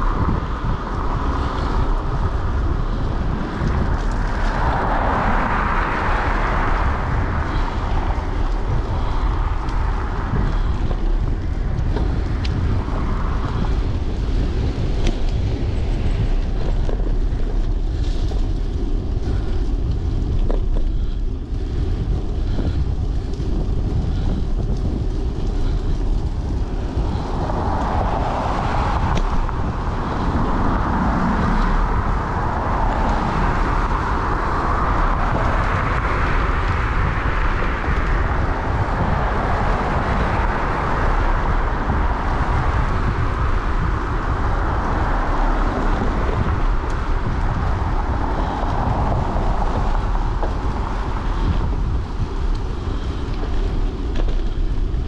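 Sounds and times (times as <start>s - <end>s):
tyres hissing on wet road: 0.0s - 19.9s, 25.3s - 55.0s
road traffic: 0.0s - 55.0s
wind rumbling on microphone: 0.0s - 55.0s.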